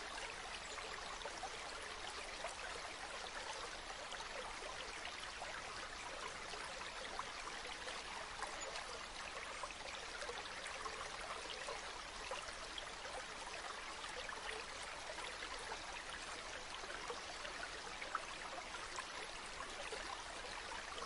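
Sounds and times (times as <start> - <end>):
water trickling into pool: 0.0 - 21.0.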